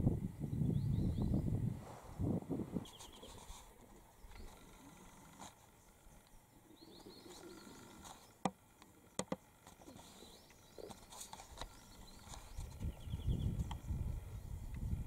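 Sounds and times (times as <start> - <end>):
faint birds chirping: 0.1 - 15.0.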